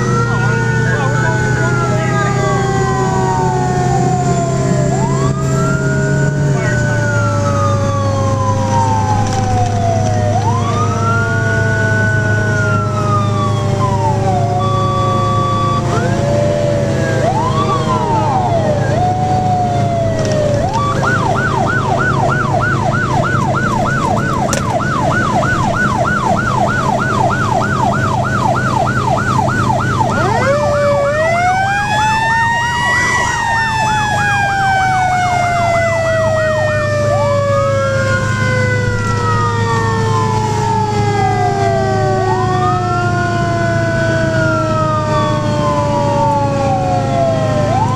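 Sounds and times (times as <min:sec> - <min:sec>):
electronic siren wailing and yelping: 0:00.0 - 0:47.9
fire engine engine drone: 0:00.0 - 0:47.9.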